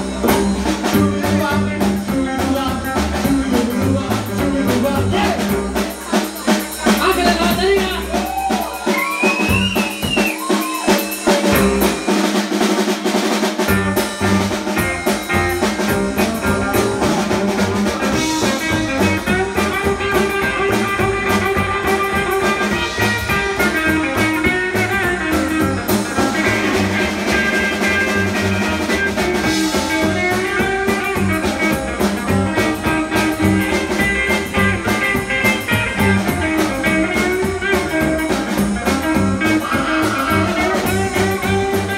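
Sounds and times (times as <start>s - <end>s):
rockabilly band playing: 0.0s - 41.9s.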